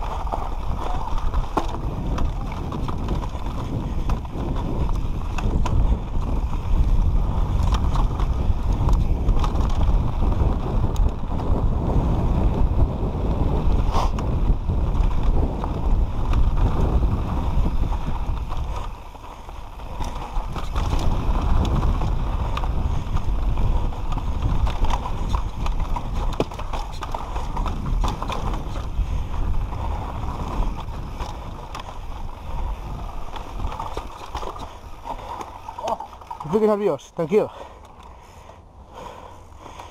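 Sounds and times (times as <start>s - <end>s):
wind rumble on microphone: 0.0s - 36.5s
bike rattling over bumps: 0.0s - 39.9s
bike tyres rolling over dirt: 0.0s - 39.9s.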